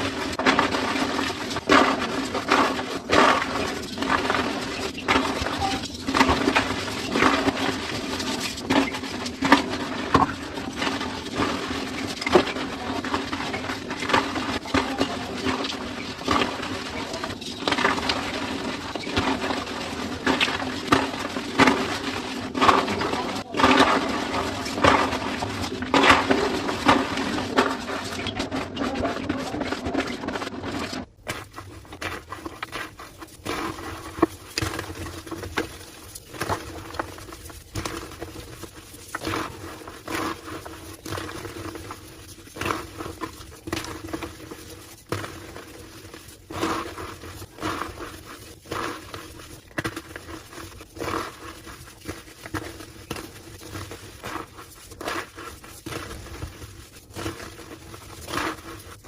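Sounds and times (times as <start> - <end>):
chalk crunching: 0.0 - 59.0.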